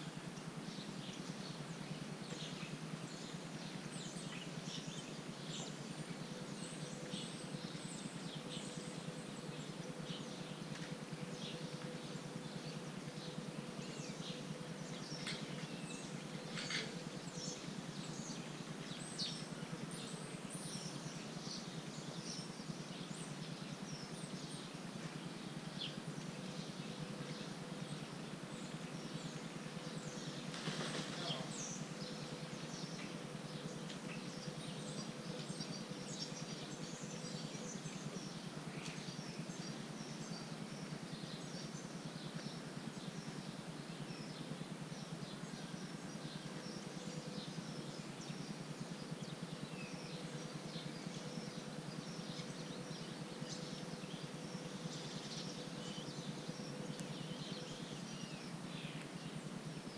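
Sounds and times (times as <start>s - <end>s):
faint steady hum: 0.0s - 59.9s
small birds chirping: 0.0s - 59.9s.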